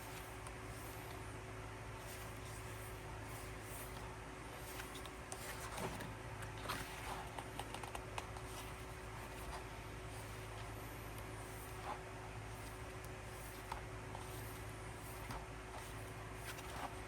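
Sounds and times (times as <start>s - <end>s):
faint hum: 0.0s - 17.0s
paper rustling: 2.0s - 17.0s.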